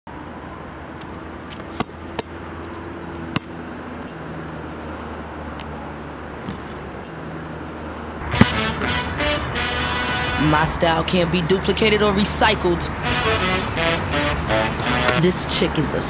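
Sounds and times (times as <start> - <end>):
street traffic rumble: 0.1 - 16.0.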